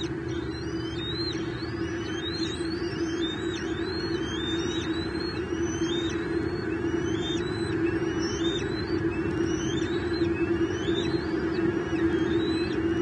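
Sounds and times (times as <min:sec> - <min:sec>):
bird whistling calls: 0:00.0 - 0:13.0
steady background noise: 0:00.0 - 0:13.0.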